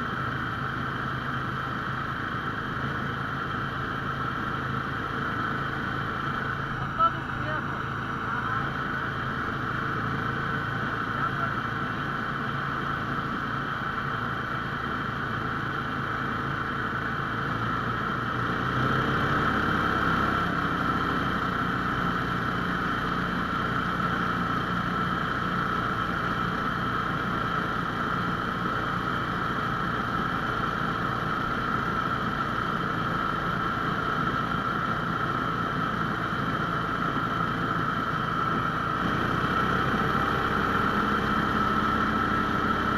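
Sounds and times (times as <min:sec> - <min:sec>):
towing sled engine running: 0:00.0 - 0:42.9.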